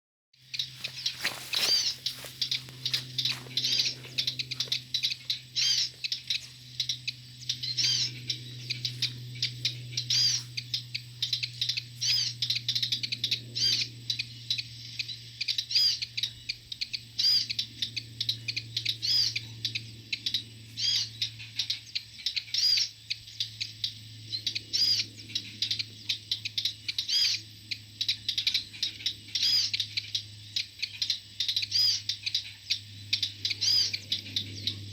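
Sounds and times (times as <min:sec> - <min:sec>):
steady low hum: 0:00.4 - 0:34.9.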